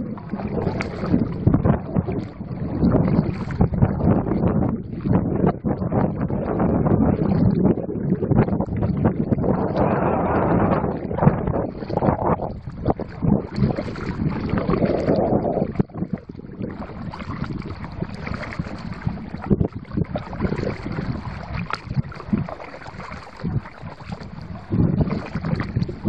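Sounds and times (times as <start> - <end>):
water splashing around kayak: 0.0 - 26.0
wind buffeting microphone: 0.0 - 26.0.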